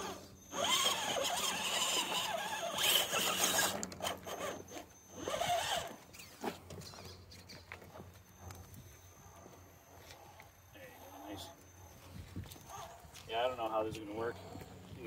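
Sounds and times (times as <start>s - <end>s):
electric motor whirring: 0.0s - 13.0s.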